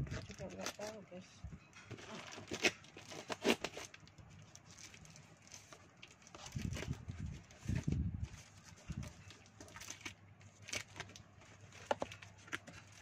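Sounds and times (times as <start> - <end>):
packing tape and cardboard crinkling: 0.0 - 1.0, 1.8 - 13.0.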